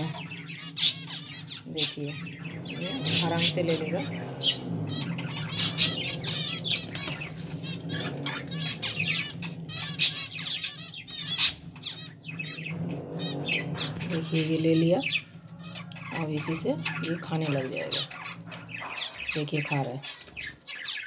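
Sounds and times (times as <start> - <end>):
budgerigar chicks chirping: 0.0 - 21.0.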